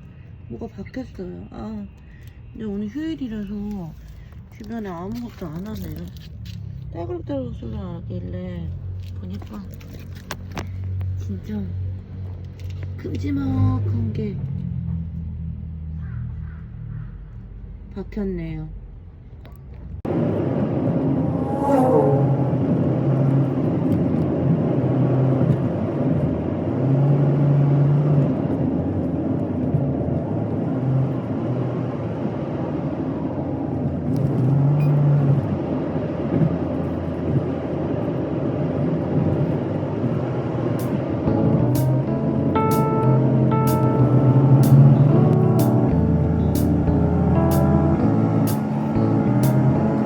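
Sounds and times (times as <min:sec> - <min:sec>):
car engine and tyre noise: 0:00.0 - 0:18.0, 0:18.8 - 0:50.0.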